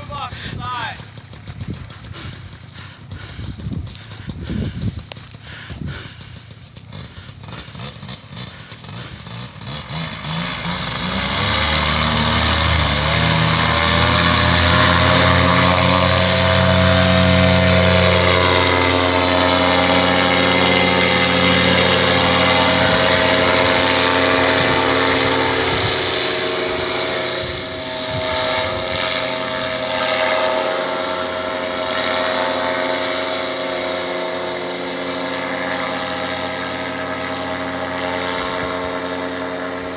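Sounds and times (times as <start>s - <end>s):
paramotor engine revving: 0.0s - 39.9s.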